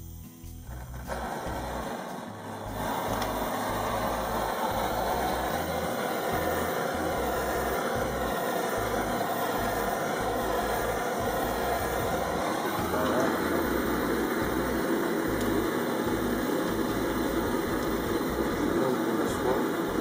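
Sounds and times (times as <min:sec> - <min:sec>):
gas blowtorch flame burning: 0:00.0 - 0:20.0.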